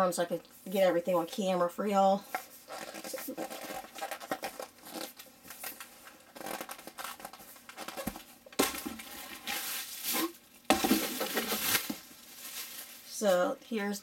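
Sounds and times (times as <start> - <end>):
plastic wrapping rustling and crinkling: 2.2 - 14.0.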